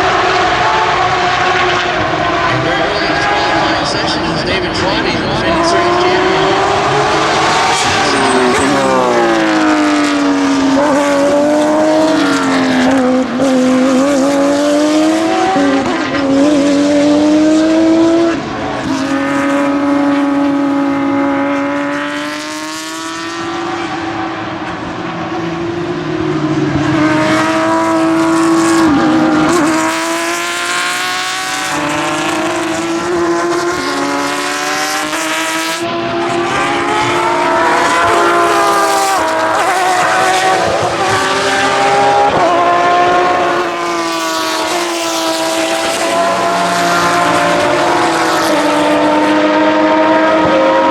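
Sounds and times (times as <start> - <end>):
race car engine with gear changes: 0.0 - 50.9.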